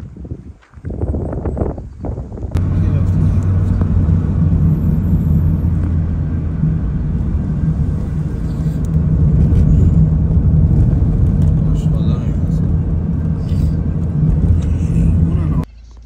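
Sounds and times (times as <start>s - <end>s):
low engine hum: 2.2s - 15.7s.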